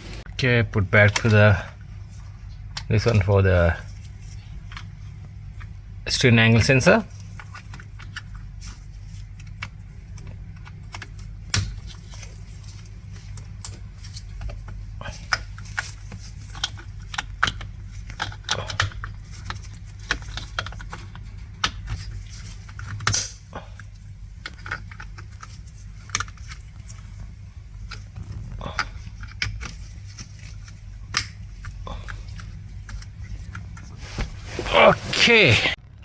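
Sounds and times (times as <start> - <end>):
steady low hum: 0.0 - 35.8.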